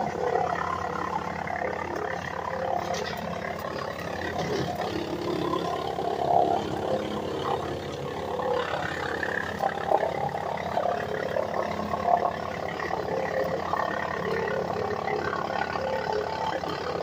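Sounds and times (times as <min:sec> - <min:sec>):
tractor engine running: 0:00.0 - 0:17.0
wood chipper chewing branches: 0:00.0 - 0:17.0.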